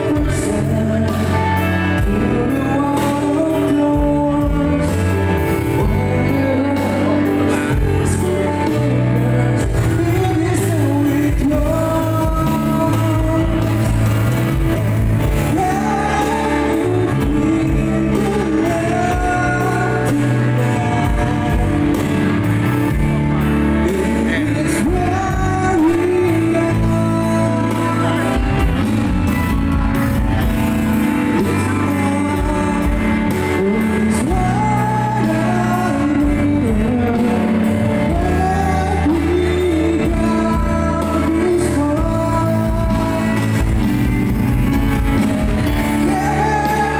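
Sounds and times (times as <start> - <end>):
live band playing: 0.0 - 46.9
man singing into a microphone: 0.0 - 46.9.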